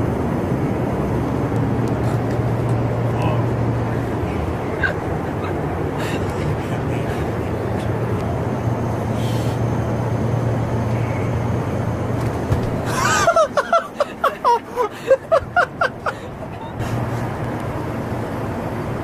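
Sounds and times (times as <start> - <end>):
jet cabin drone: 0.0 - 19.0.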